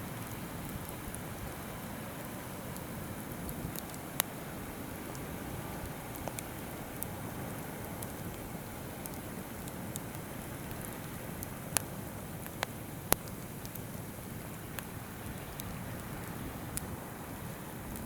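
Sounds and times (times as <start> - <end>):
campfire crackling: 0.0 - 18.0
fire popping: 0.0 - 18.0.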